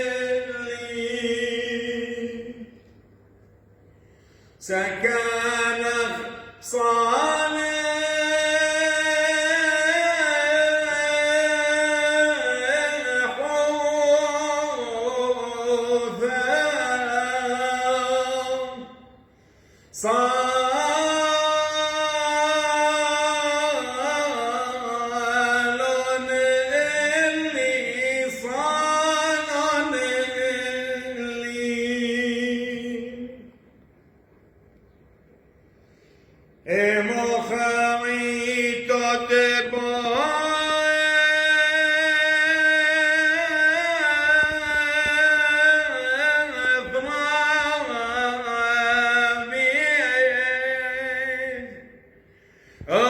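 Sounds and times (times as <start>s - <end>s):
man chanting a hymn: 0.0s - 3.0s, 4.4s - 19.3s, 19.9s - 33.6s, 36.6s - 53.0s.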